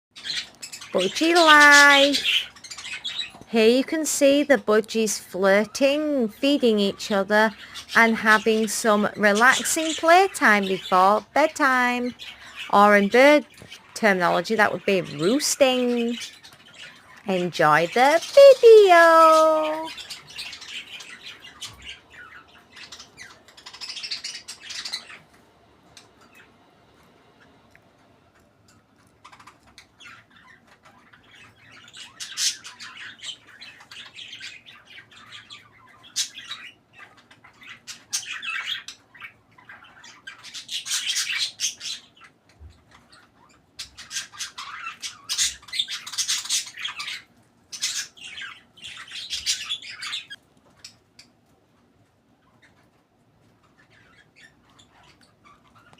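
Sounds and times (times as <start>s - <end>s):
budgerigars chattering and squawking: 0.2s - 3.5s, 5.6s - 25.4s, 28.7s - 51.4s, 52.4s - 55.9s.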